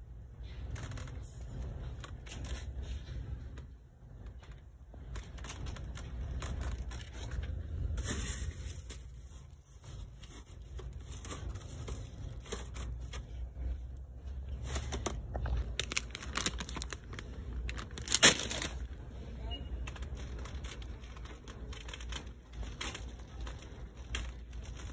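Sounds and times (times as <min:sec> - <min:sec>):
shopping cart rumbling: 0:00.2 - 0:24.9.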